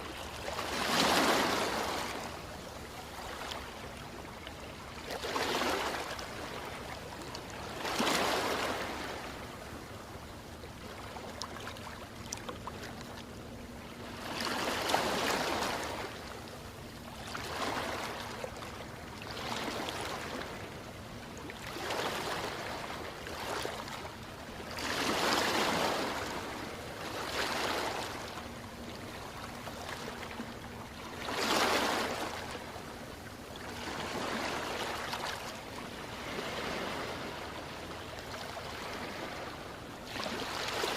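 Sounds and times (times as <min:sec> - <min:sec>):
ocean waves breaking: 0:00.0 - 0:09.8, 0:10.4 - 0:40.9.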